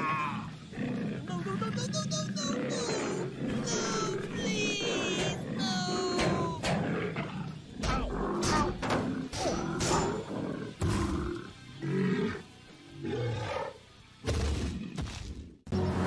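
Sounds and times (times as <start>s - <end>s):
animal-like roars and growls: 0.0s - 15.5s
background music: 0.0s - 16.0s.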